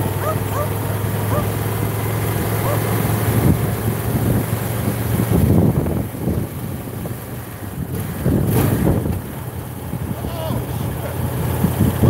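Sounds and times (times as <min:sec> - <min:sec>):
motorcycle engine: 0:00.0 - 0:12.0
wind buffeting microphone: 0:00.0 - 0:12.0.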